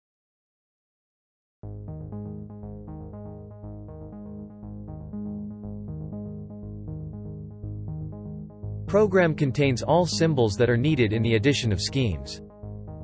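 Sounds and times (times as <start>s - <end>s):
synthesizer music with steady beat: 1.6s - 13.0s.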